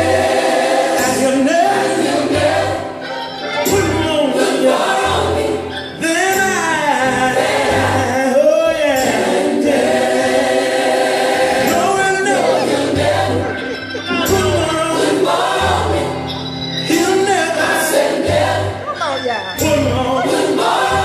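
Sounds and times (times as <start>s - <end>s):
bass-heavy backing music: 0.0s - 21.0s
choir singing gospel: 0.0s - 21.0s.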